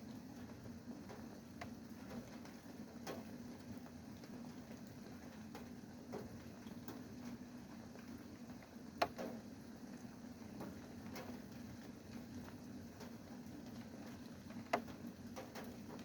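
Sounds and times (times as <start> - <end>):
rain drips on hard surface: 0.0 - 16.0.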